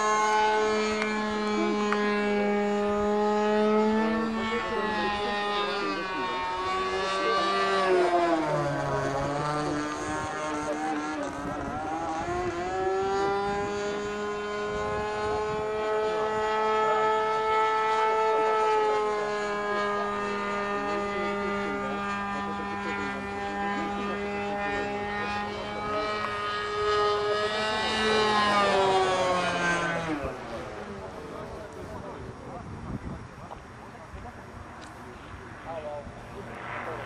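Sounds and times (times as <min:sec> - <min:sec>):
model airplane engine drone: 0:00.0 - 0:37.0.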